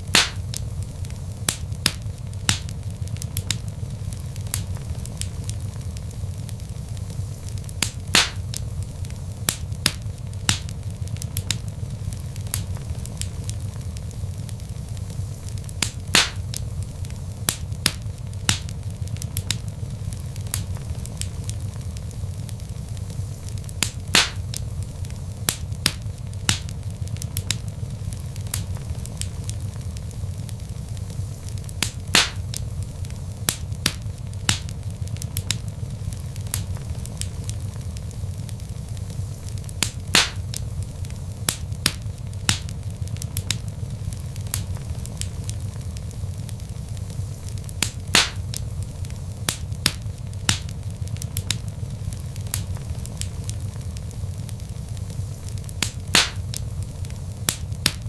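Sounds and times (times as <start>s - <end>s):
log fire crackling and popping: 0.0s - 58.0s.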